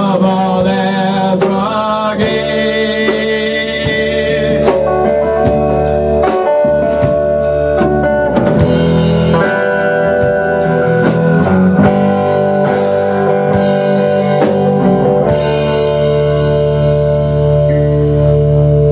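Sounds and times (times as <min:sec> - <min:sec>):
drum kit beat: 0:00.0 - 0:18.9
electric bass: 0:00.0 - 0:18.9
electric guitar: 0:00.0 - 0:18.9.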